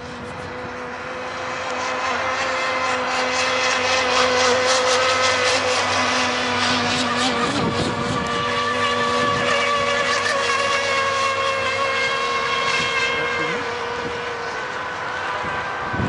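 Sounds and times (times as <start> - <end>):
model boat engines droning: 0.0 - 16.0.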